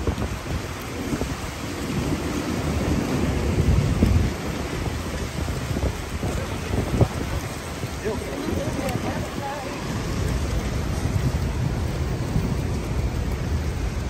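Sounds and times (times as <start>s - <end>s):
city street noise rumbling: 0.0s - 14.0s.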